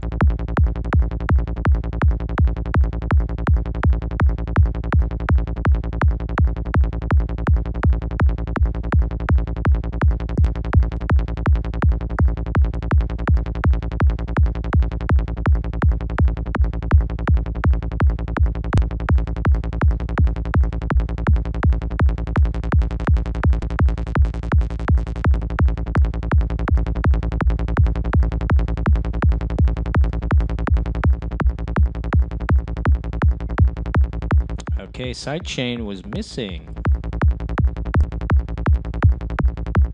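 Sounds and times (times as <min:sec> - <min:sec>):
distorted bass notes: 0:00.0 - 0:39.9
punchy electronic kick drum: 0:00.0 - 0:39.9.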